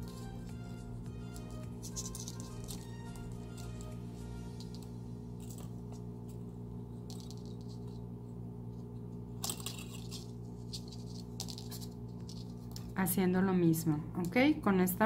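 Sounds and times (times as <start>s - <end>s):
wire scratchy rustles: 0.0s - 13.0s
steady low hum: 0.0s - 15.0s.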